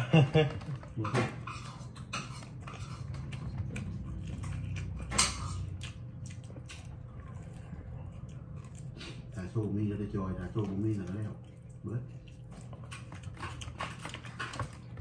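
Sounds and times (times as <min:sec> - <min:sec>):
person chewing meat off a rib: 0:00.0 - 0:15.0
steady low hum: 0:00.0 - 0:15.0.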